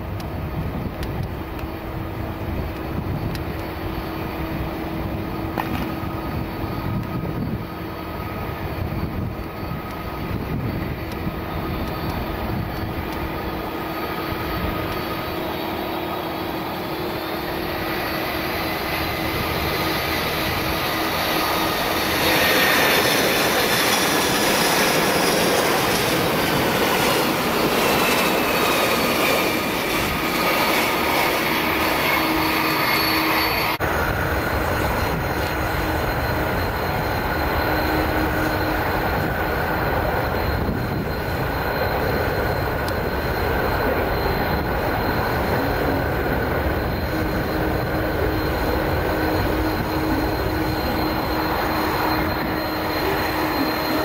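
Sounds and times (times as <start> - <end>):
jet engine whine: 0.0 - 54.0
jet rolling low rumble: 0.0 - 54.0.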